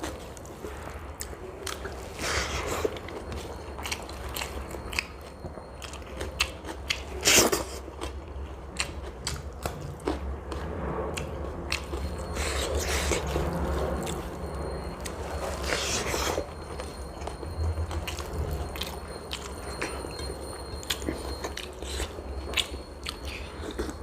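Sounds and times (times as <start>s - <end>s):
person chewing: 0.0s - 24.0s
steady low hum: 0.0s - 24.0s.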